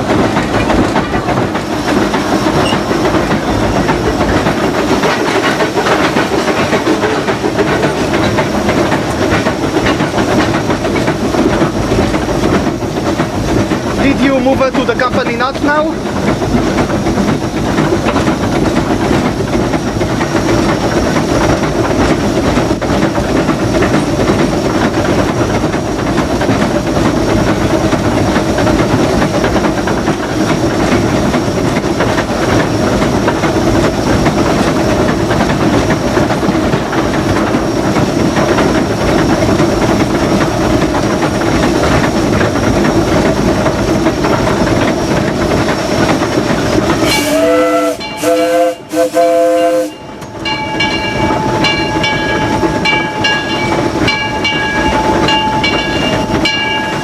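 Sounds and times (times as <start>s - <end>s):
steam hissing: 0.0s - 50.4s
locomotive wheels clattering: 0.0s - 57.0s.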